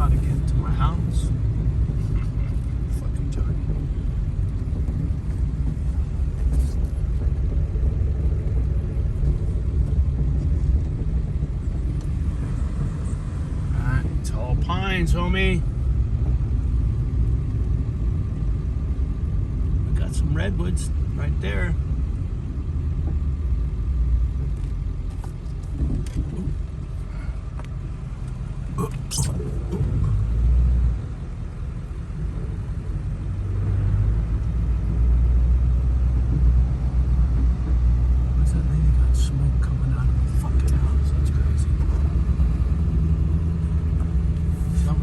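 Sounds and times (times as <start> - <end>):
vehicle road rumble from inside: 0.0 - 45.0.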